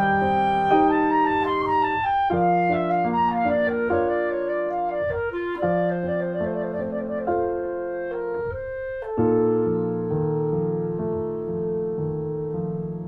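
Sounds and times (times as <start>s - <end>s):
keyboard accompaniment: 0.0s - 13.0s
slow instrumental melody: 0.0s - 13.0s.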